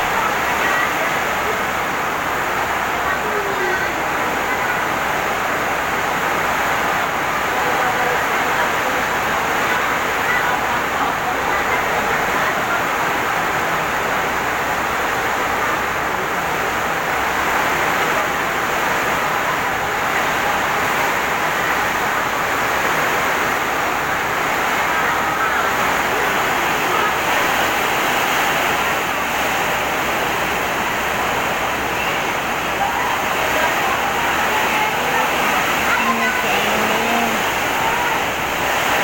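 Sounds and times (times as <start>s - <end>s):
heavy rain in strong wind: 0.0s - 39.0s.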